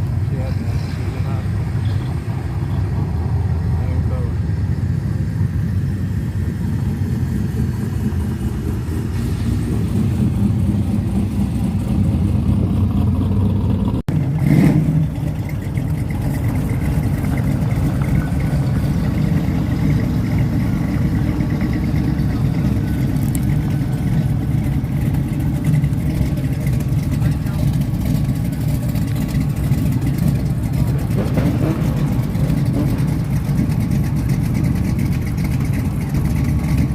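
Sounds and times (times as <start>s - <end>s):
car engines rumbling: 0.0s - 36.9s.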